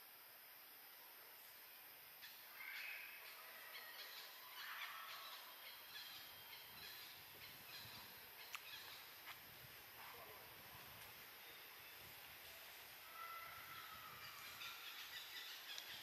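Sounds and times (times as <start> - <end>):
steady low hiss: 0.0 - 16.0
faint bird chirps: 2.2 - 9.4, 10.0 - 16.0.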